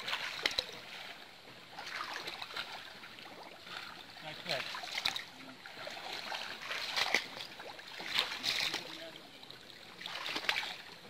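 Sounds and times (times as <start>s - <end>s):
pond water splashing: 0.0s - 11.0s.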